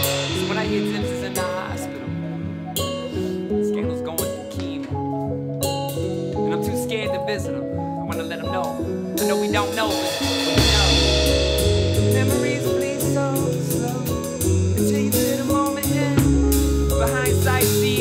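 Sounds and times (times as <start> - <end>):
deep bass notes: 0.0 - 18.0
drum kit with cymbals: 0.0 - 18.0
electric guitar: 0.0 - 18.0.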